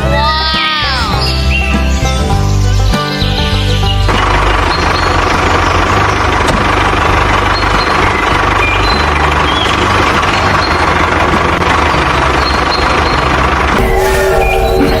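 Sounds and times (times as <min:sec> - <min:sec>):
vehicle engine running loudly: 0:01.1 - 0:15.0.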